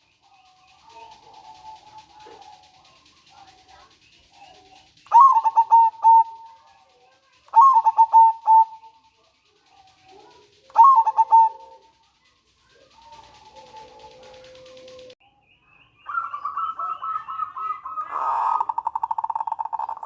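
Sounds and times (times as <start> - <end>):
dove cooing: 0.0 - 15.2, 16.1 - 20.0.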